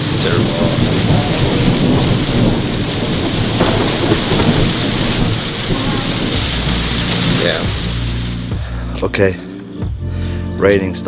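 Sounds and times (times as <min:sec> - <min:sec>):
low rumble: 0:00.0 - 0:10.2
heavy rain pouring: 0:00.0 - 0:10.6.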